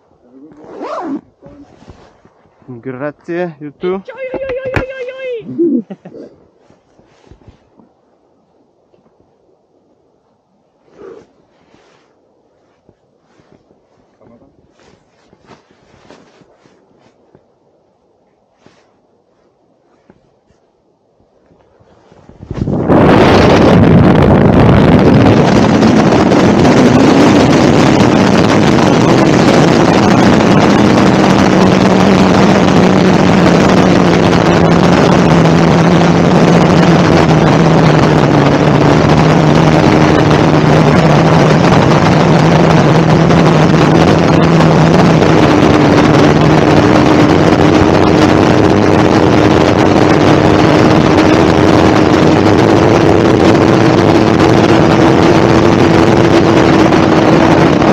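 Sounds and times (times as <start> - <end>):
low humming tones: 0.0 - 57.9
wind rushing across microphone: 0.0 - 57.9.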